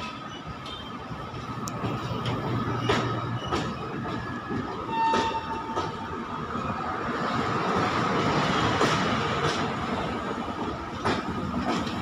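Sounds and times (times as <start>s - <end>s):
wheels clicking over rail joints: 0.0s - 6.1s, 7.7s - 12.0s
train wheels rumbling on rail: 0.0s - 12.0s.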